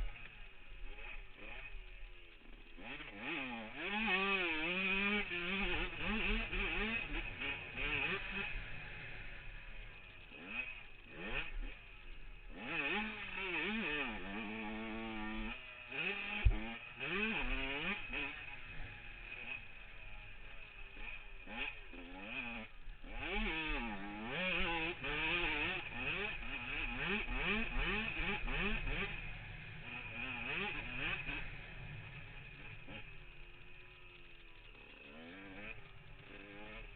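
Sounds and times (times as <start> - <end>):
motocross bike engine revving: 0.0 - 36.9.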